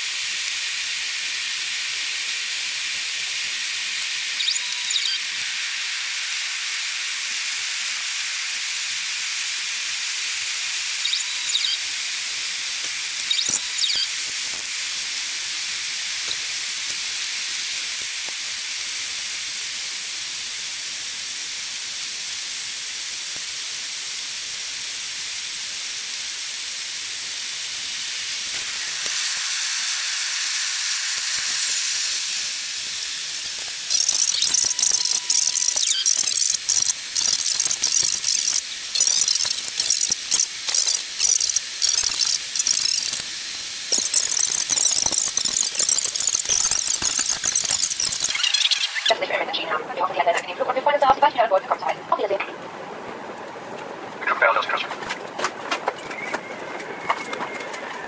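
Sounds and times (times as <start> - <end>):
sped-up cabin noise hiss: 5.2 - 58.0.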